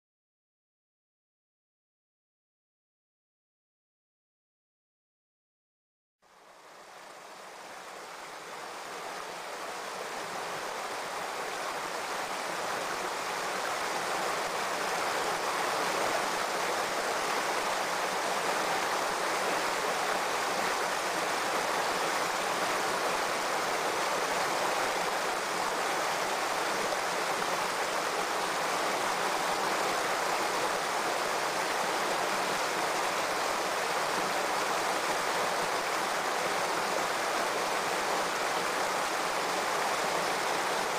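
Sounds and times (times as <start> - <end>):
stream running over stones: 6.3 - 40.9.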